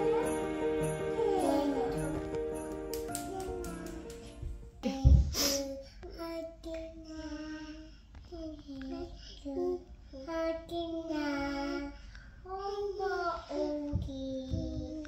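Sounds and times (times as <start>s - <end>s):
young child singing: 0.0s - 2.4s, 3.1s - 4.2s, 4.8s - 15.0s.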